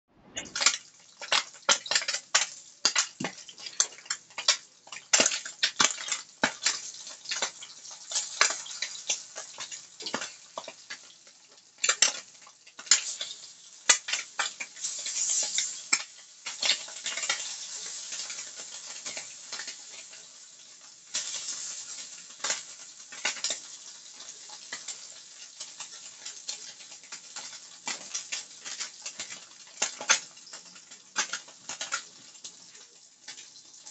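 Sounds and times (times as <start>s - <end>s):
ham sizzling in a skillet: 0.2s - 33.9s
utensils tapping a pan: 0.4s - 33.9s.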